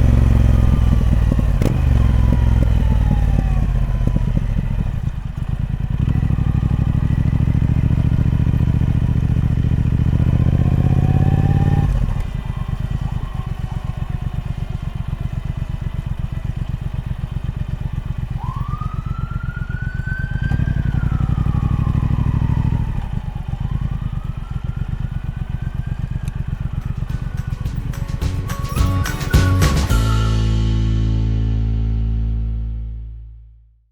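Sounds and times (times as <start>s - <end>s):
motorcycle engine revving: 0.0s - 32.8s.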